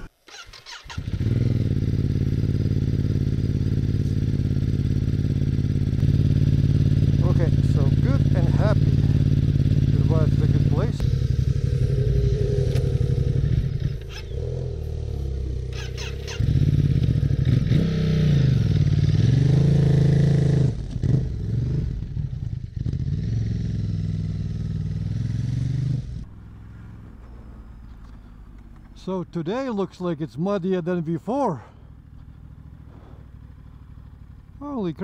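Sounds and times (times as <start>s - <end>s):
motorcycle engine revving: 0.0s - 29.1s, 31.6s - 35.0s.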